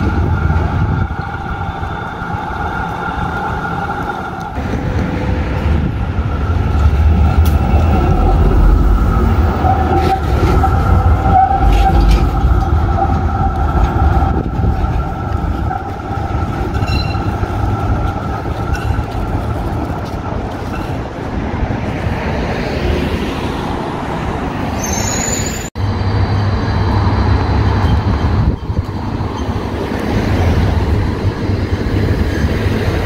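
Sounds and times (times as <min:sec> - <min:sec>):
tram high whine: 0:00.0 - 0:33.0
tram wheels rumbling on rails: 0:00.0 - 0:33.0.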